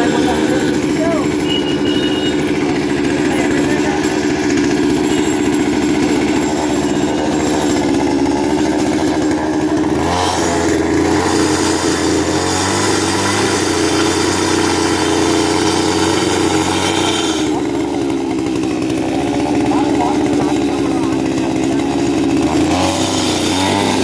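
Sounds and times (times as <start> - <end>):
two-stroke auger engine: 0.0 - 24.0.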